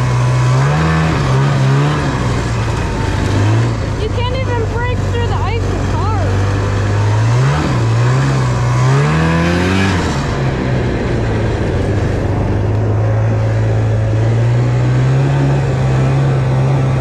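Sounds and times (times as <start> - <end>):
snowmobile engine accelerating: 0.0 - 17.0.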